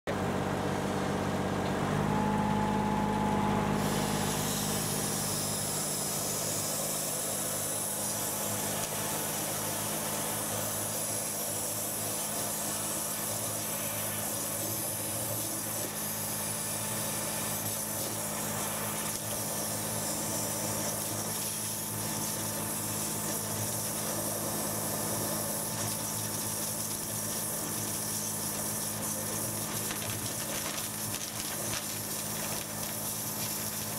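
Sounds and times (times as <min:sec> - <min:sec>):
engine and pump running: 0:00.1 - 0:33.9
water jet hissing: 0:03.7 - 0:33.9.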